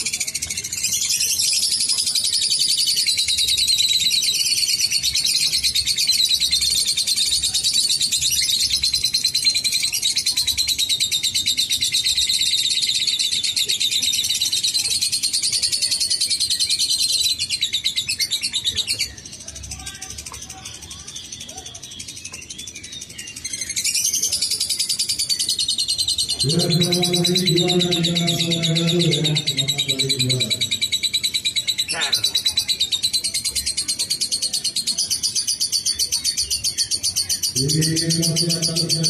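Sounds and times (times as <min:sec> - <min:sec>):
lovebird chattering trill: 0:00.0 - 0:39.0.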